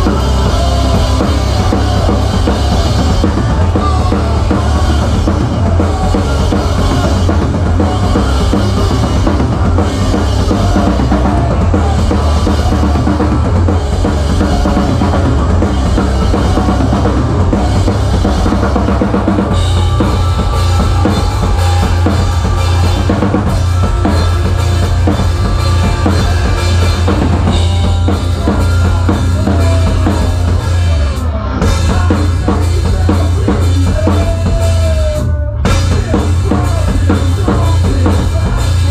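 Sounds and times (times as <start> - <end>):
cymbals played hard: 0.0 - 34.6
live rock band: 0.0 - 38.9.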